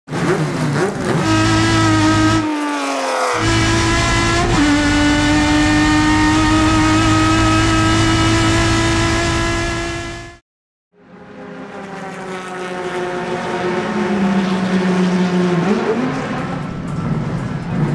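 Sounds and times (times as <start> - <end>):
race car engine revving: 0.1 - 10.4, 11.5 - 17.9.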